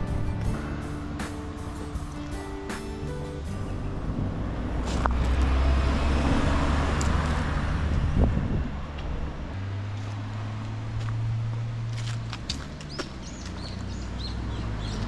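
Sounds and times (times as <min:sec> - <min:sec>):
vehicle passing on road: 0:00.0 - 0:15.0.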